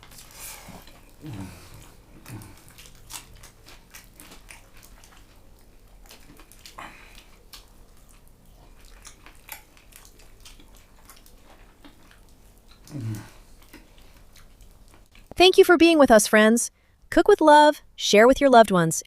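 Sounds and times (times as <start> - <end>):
person chewing and biting food: 0.0 - 15.4.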